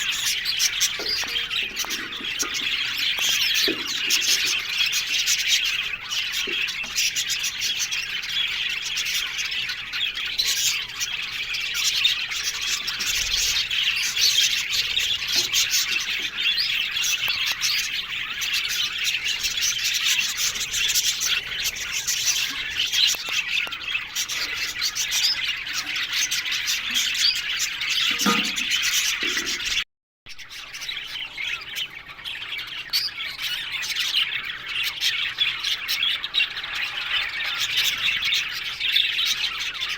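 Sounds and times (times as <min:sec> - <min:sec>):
budgerigar flock chattering: 0:00.0 - 0:29.8, 0:30.4 - 0:39.9.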